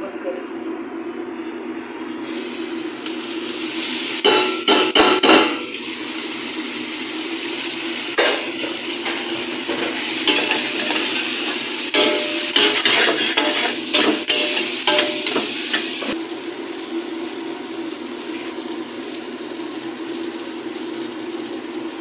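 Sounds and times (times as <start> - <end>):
hiss of frying: 2.2 - 22.0.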